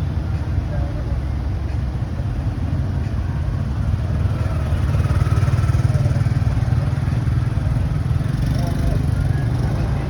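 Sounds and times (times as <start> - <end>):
motorcycle engine and road rumble: 0.0 - 10.0.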